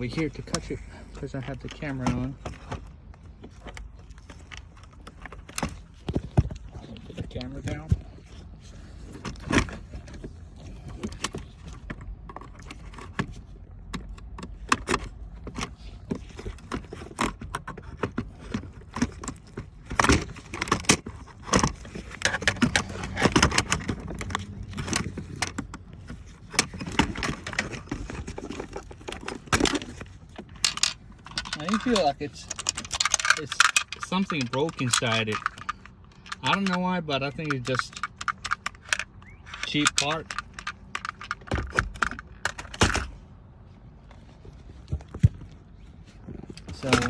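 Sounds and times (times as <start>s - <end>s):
hands handling gear shifter parts: 0.0s - 47.0s.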